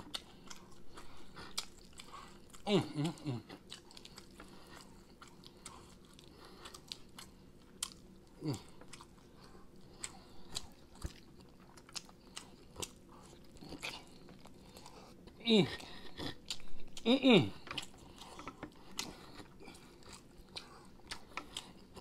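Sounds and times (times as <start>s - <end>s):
chewing and wet smacks: 0.0s - 22.0s.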